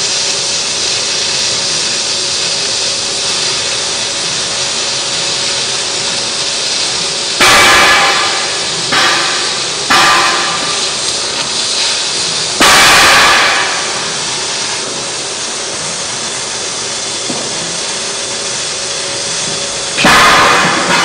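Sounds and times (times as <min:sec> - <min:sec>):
cutting torch hissing: 0:00.0 - 0:21.0.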